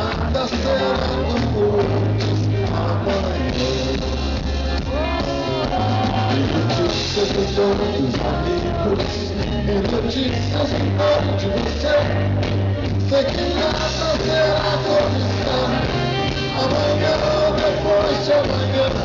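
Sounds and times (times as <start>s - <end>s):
drums: 0.0s - 19.0s
electric bass: 0.0s - 19.0s.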